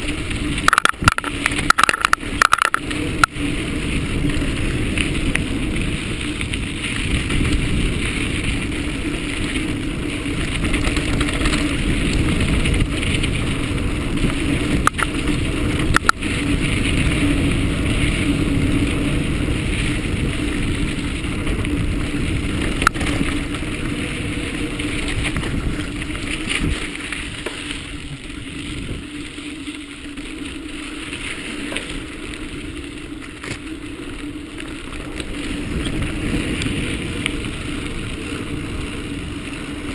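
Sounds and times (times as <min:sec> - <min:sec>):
bike rattle: 0:00.0 - 0:39.9
bike tyres on dirt: 0:00.0 - 0:39.9.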